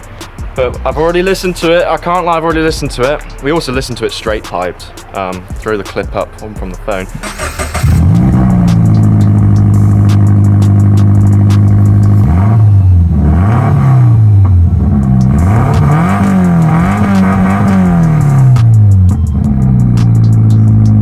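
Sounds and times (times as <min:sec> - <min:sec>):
loud car engine idling and revving: 0:00.0 - 0:21.0.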